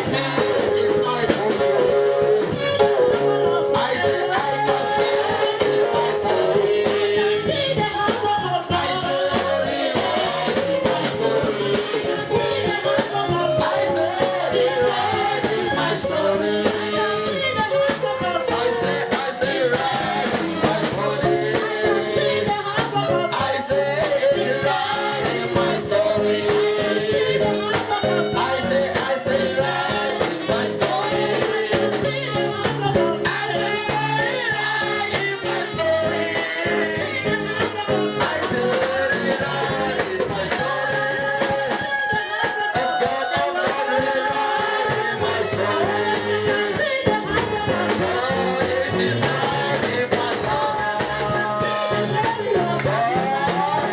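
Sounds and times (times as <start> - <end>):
gospel singing over instruments: 0.0 - 53.9.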